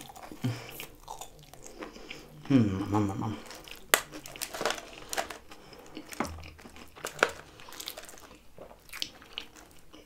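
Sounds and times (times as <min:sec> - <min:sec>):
chewing food: 0:00.0 - 0:10.0.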